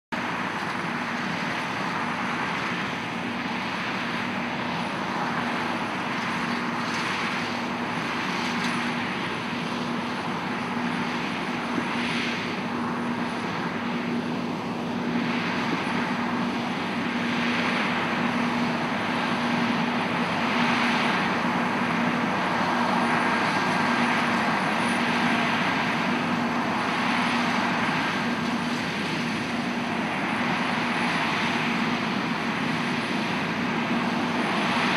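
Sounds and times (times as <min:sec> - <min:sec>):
combine harvester droning: 0:00.2 - 0:34.9.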